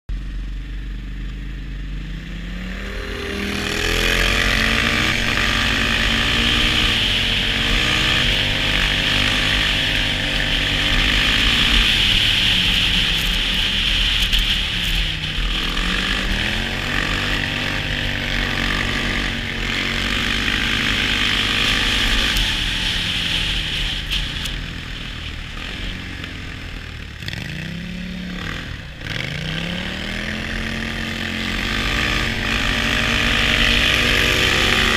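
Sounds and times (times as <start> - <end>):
quad engine revving: 0.2 - 34.9.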